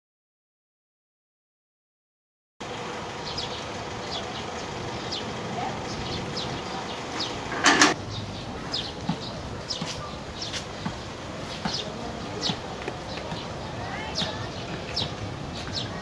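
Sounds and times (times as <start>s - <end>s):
small birds chirping: 2.7s - 16.0s.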